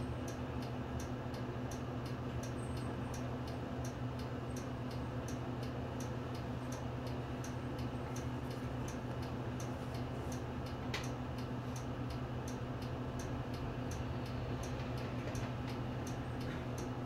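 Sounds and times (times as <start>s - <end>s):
turn signal relay ticking: 0.2s - 17.0s.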